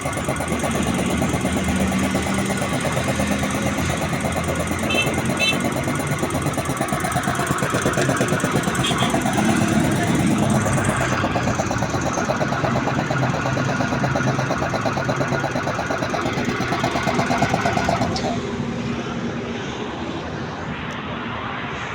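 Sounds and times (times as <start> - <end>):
air compressor pulsing: 0.0 - 19.3.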